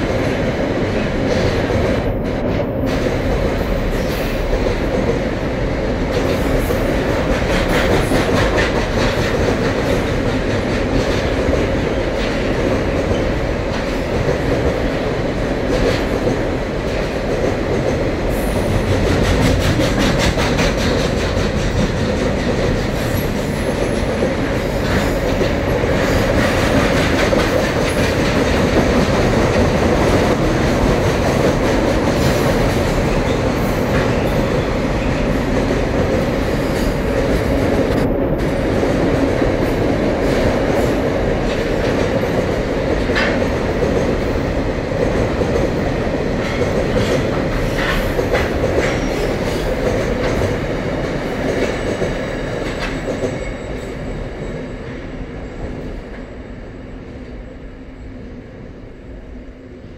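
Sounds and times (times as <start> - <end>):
freight train rumbling over bridge: 0.0 - 59.9.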